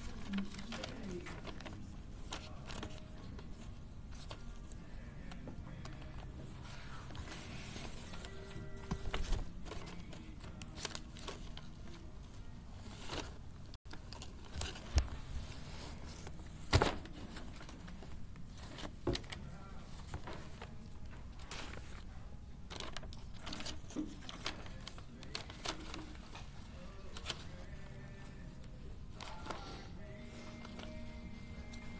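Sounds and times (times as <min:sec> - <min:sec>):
paper sheets rustling: 0:00.0 - 0:31.9.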